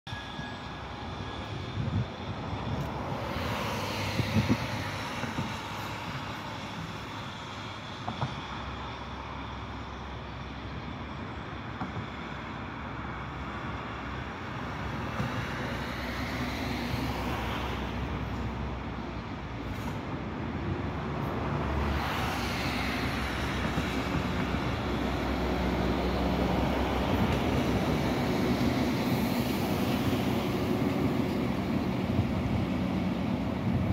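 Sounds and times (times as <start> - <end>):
railcar rumble: 0.1 - 33.9
tyres hissing on wet road: 0.2 - 33.9.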